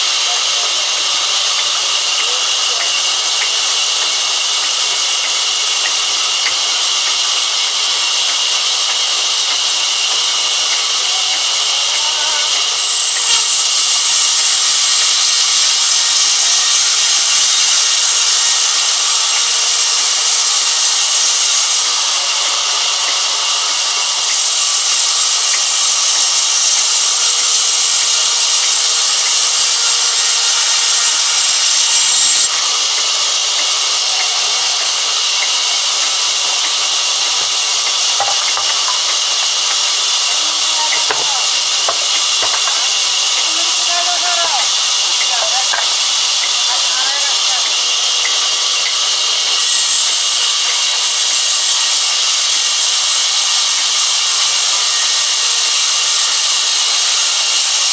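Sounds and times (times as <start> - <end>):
band saw cutting timber: 0.0 - 57.9.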